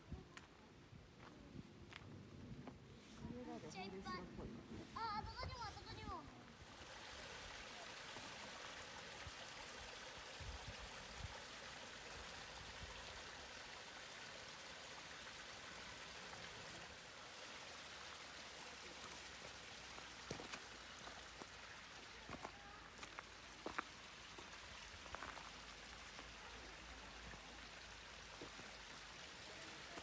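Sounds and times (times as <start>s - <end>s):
stream running over rocks: 3.4s - 30.0s.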